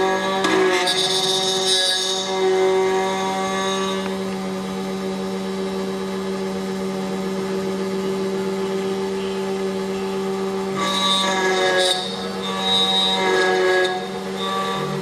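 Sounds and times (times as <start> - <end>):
key cutting machine humming: 0.0 - 15.0.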